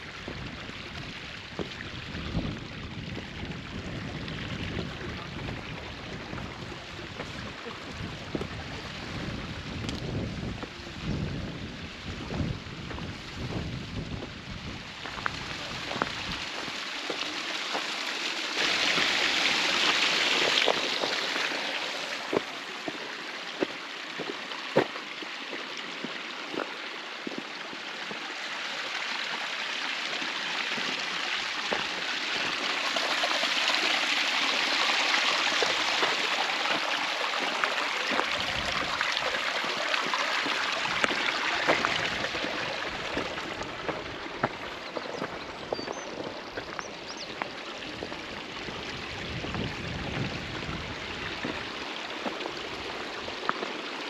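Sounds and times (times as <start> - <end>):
brook water splashing over rocks: 0.0 - 54.0.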